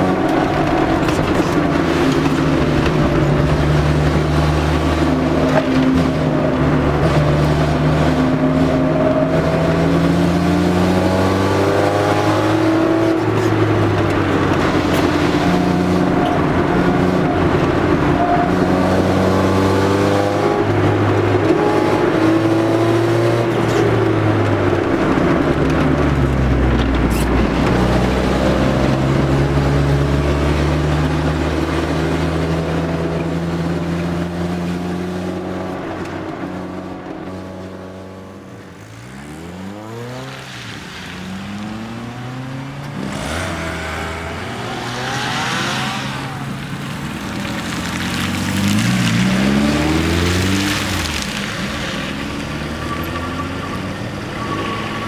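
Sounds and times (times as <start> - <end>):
car engine inside cabin: 0.0 - 55.0
cars driving past: 0.0 - 55.0.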